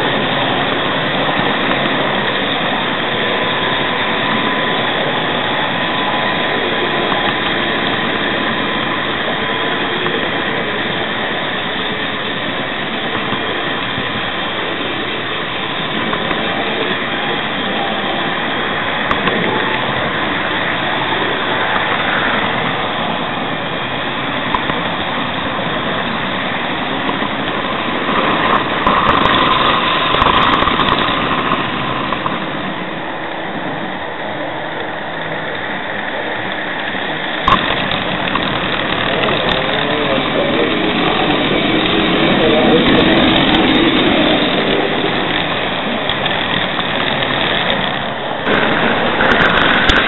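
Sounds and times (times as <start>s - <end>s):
bright whine: 0.0s - 50.0s
model train rolling rumble: 0.0s - 50.0s.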